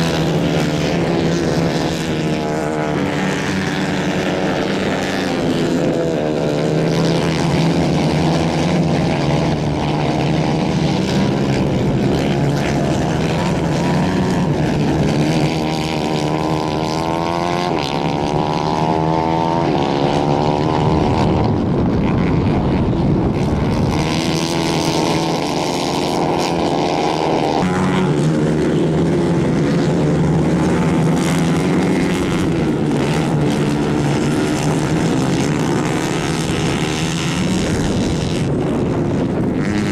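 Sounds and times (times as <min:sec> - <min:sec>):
racing kart engines revving: 0:00.0 - 0:39.9.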